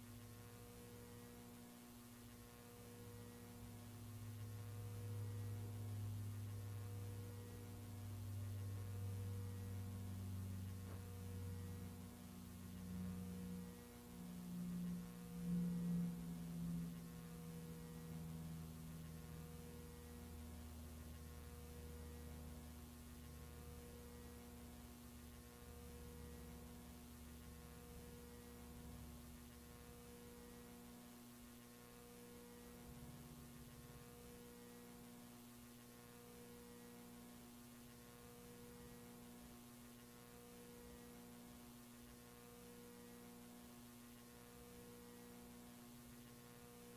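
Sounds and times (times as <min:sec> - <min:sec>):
faint pulsing tones: 0:00.0 - 0:46.9
low electrical hum: 0:00.0 - 0:46.9.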